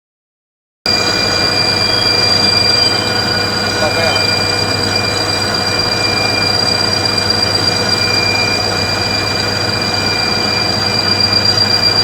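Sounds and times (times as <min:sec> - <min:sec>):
machine whining and humming: 0:00.9 - 0:12.0.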